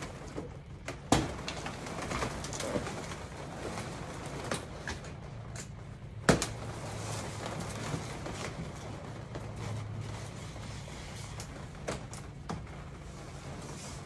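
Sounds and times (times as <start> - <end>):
balloons being handled: 0.0 - 14.0.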